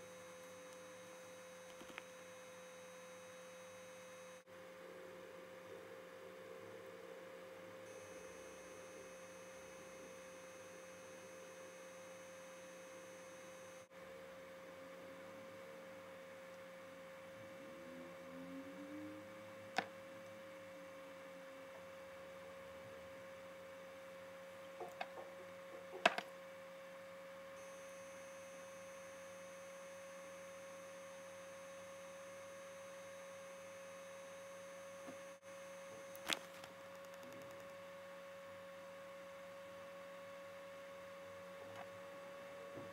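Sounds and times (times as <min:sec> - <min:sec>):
faint electrical hum: 0:00.0 - 0:42.9.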